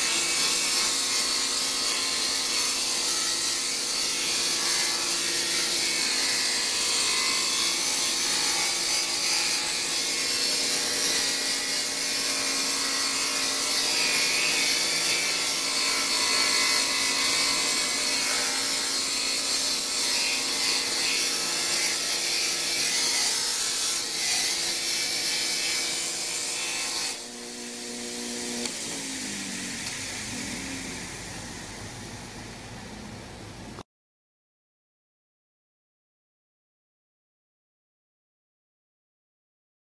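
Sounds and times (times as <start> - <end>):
power tool motor: 0.0 - 32.2.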